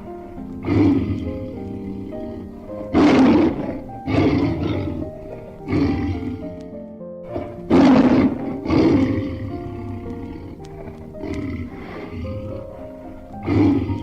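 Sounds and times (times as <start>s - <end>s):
background music with held notes: 0.0s - 14.0s
lion roaring: 0.2s - 14.0s.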